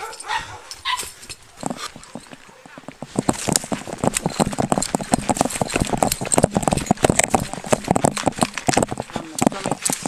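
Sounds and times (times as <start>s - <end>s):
running footsteps on dirt: 0.1s - 10.0s.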